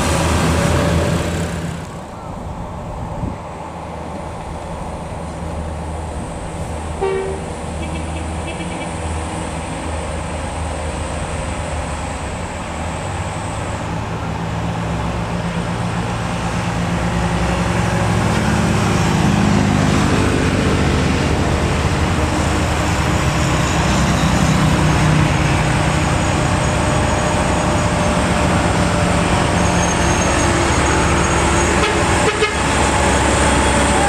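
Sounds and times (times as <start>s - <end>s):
road traffic: 0.0s - 34.0s
truck diesel engines passing: 0.0s - 34.0s.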